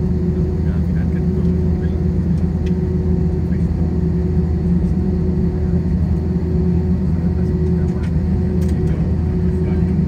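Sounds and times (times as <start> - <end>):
constant hum: 0.0 - 10.0
jet engines droning in cabin: 0.0 - 10.0.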